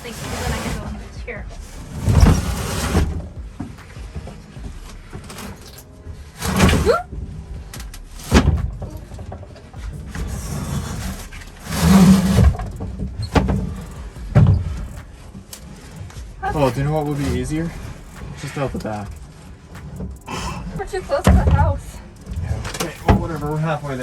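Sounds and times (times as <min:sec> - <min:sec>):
wooden cabinet bumping and scraping: 0:00.0 - 0:24.0.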